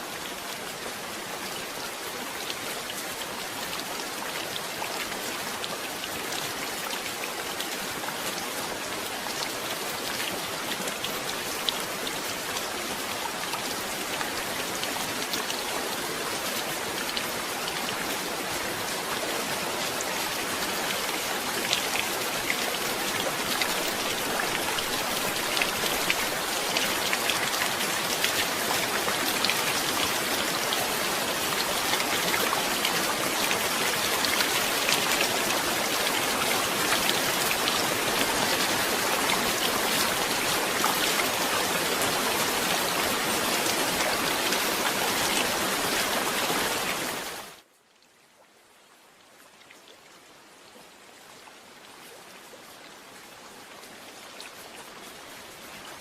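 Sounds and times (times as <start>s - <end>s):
heavy rain falling: 0.0s - 47.6s.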